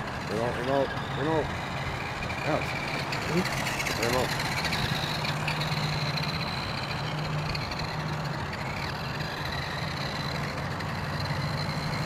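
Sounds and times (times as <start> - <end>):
motor hum with high whine: 0.0 - 12.0
outdoor noise: 0.0 - 12.0.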